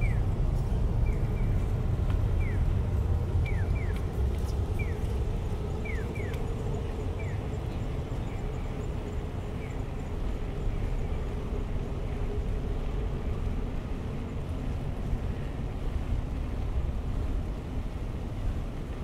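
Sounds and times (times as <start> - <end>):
low rumble of city traffic: 0.0 - 19.0.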